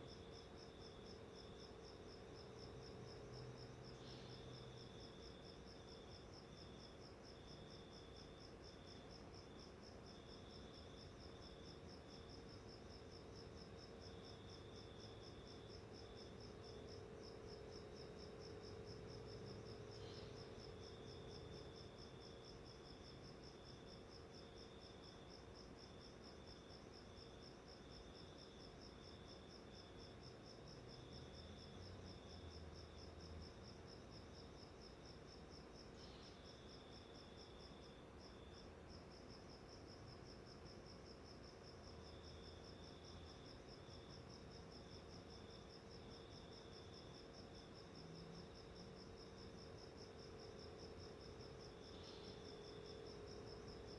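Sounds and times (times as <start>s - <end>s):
high insect chirping: 0.0s - 53.9s
low insect trill: 0.0s - 53.9s.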